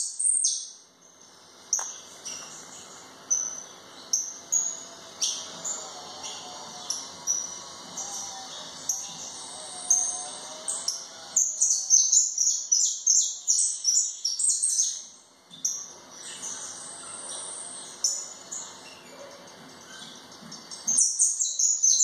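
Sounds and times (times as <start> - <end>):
finch chirping: 1.7 - 22.0.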